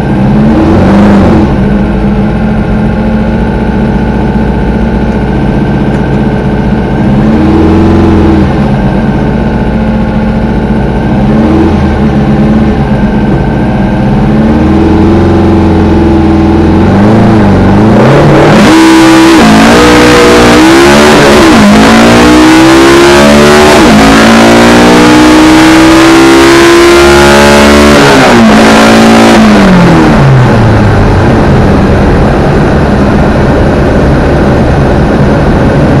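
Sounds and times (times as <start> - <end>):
car engine revving at full throttle: 0.0 - 36.0.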